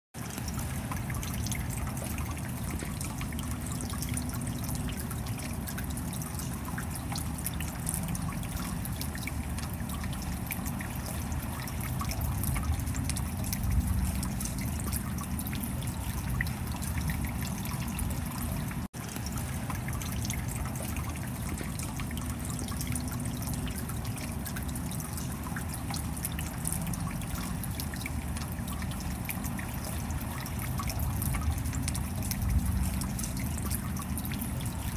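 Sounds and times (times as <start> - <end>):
water gurgling: 0.2 - 34.9.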